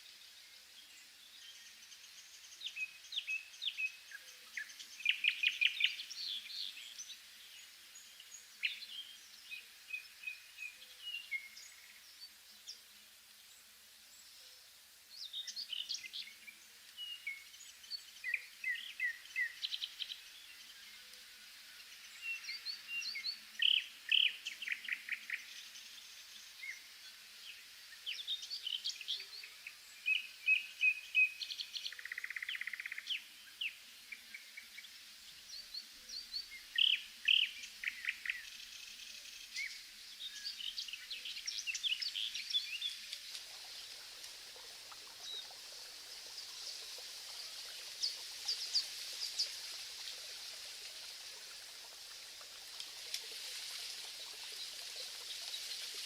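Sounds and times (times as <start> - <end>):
faint background hiss: 0.0 - 56.0
songbirds chirping and trilling: 0.0 - 56.0.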